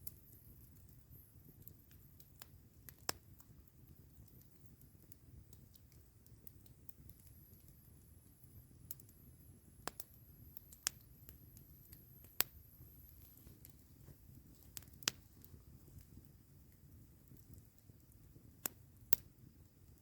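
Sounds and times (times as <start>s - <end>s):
campfire wood crackling: 0.0s - 20.0s.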